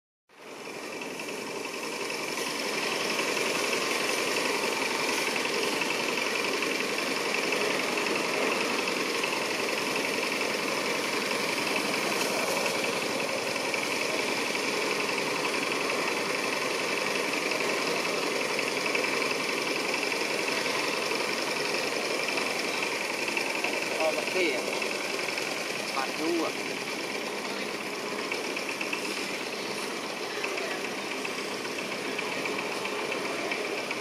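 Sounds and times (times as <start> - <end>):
dense high buzzing drone: 0.3 - 34.0.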